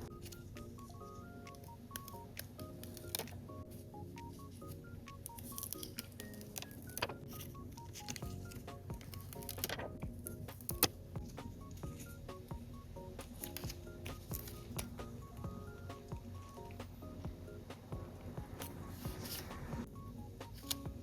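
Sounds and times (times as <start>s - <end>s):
beep-like electronic melody: 0.0s - 21.0s.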